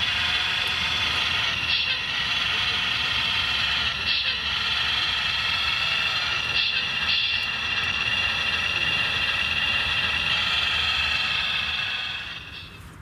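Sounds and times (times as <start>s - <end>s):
small electric motor whine: 0.0s - 12.8s.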